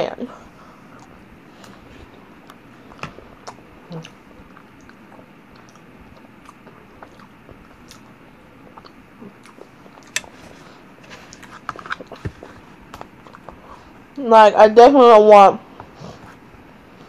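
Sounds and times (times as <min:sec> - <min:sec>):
person chewing food: 0:00.5 - 0:14.2.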